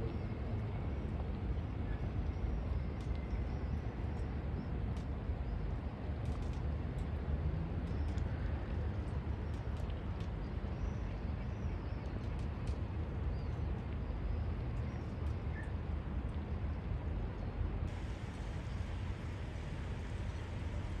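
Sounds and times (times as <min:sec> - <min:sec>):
low harbour rumble: 0:00.0 - 0:21.0.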